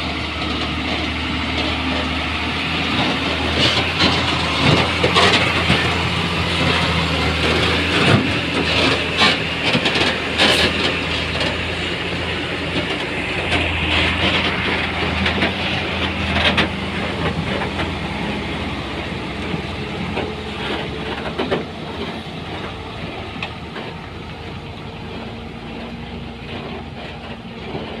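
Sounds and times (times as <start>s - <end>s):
diesel construction machinery running: 0.0s - 28.0s.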